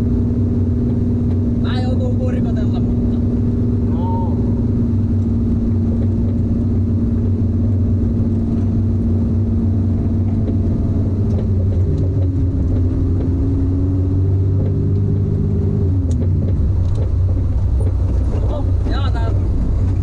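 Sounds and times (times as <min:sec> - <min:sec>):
car engine running steadily: 0:00.0 - 0:20.0.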